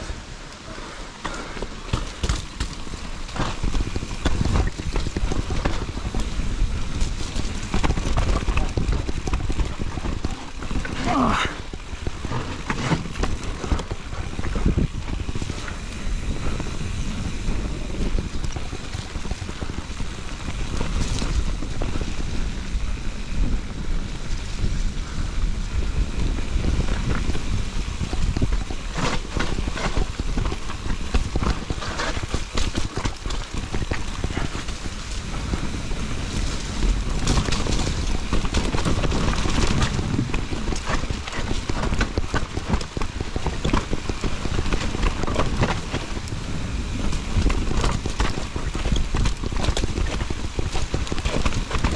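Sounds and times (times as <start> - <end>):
tyres running over dirt: 0.0 - 51.9
wind rumbling on microphone: 0.0 - 51.9
bike knocks and rattles: 1.2 - 51.9.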